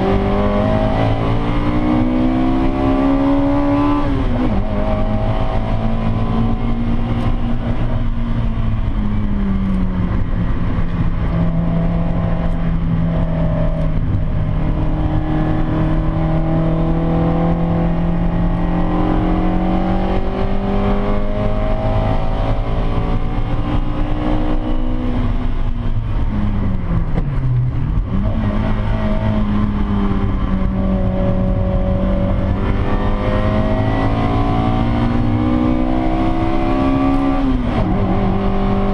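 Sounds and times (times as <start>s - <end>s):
car engine running under load: 0.0s - 38.9s
road and wind noise: 0.0s - 38.9s.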